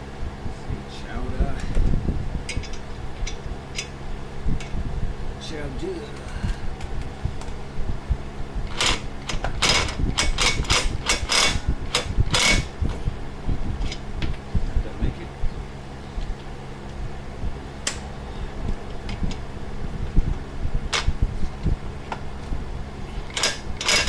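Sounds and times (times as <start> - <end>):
fan humming: 0.0 - 24.0.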